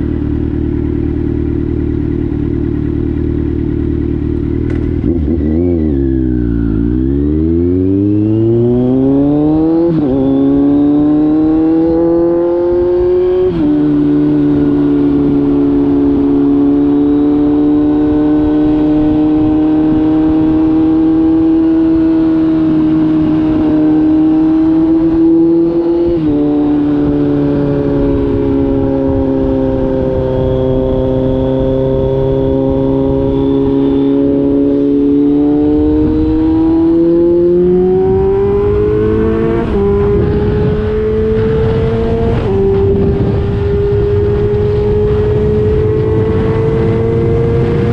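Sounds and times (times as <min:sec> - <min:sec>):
motorcycle engine revving through gears: 0:00.0 - 0:47.9.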